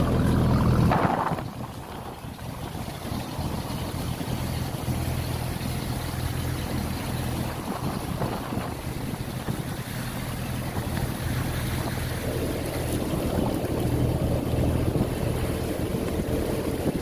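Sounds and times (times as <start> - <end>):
motorboat engine humming: 0.0 - 17.0
water rushing against boat: 0.0 - 17.0.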